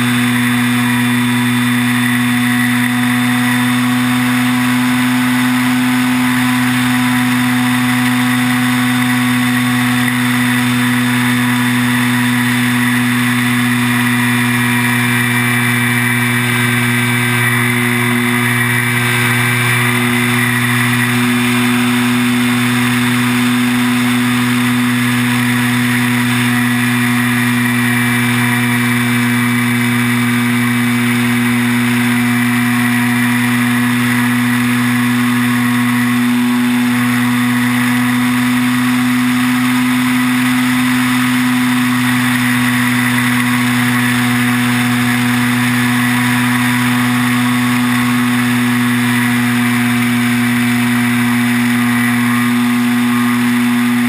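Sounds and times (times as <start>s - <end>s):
model plane motor drone and whine: 0.0s - 54.0s.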